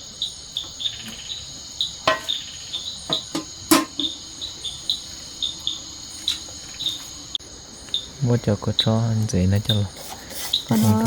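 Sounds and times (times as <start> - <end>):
insect chirp: 0.0 - 11.0
insects droning: 0.0 - 11.0.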